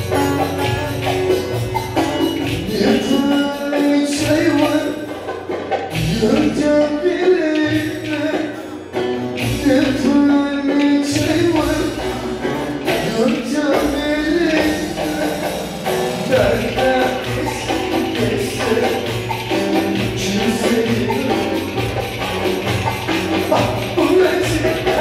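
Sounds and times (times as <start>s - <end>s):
person singing: 0.0s - 5.2s, 5.9s - 25.0s
folk dance music: 0.0s - 25.0s.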